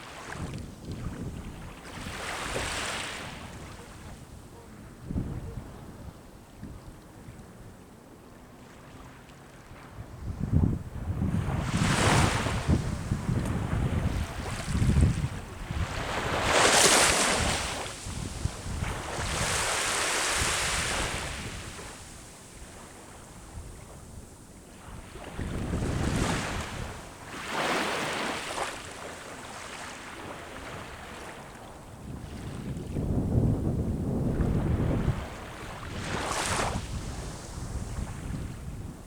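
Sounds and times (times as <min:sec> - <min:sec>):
sea waves breaking on shore: 0:00.0 - 0:04.3, 0:08.2 - 0:33.0, 0:34.3 - 0:39.0
wind rumble on microphone: 0:00.1 - 0:08.0, 0:09.6 - 0:27.9, 0:30.2 - 0:39.0.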